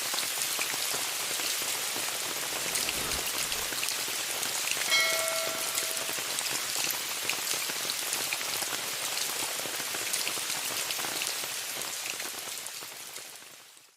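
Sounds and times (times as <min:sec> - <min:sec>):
rain falling on a tent: 0:00.0 - 0:13.9.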